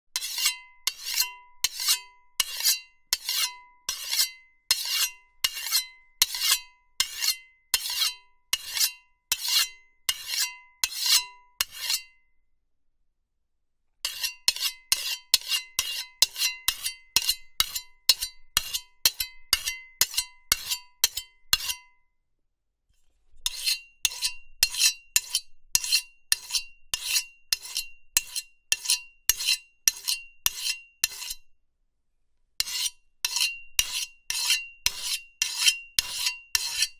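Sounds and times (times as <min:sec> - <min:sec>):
knife being sharpened: 0:00.2 - 0:12.2, 0:14.0 - 0:21.9, 0:23.4 - 0:31.4, 0:32.6 - 0:36.9.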